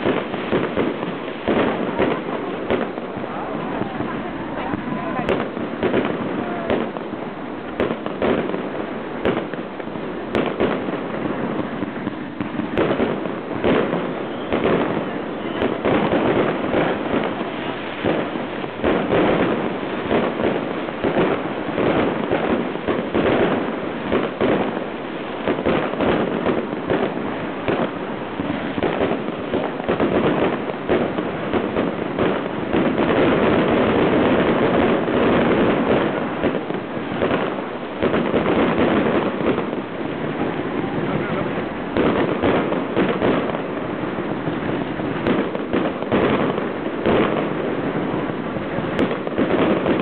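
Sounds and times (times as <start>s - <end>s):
fireworks bangs and pops: 0.0s - 50.0s.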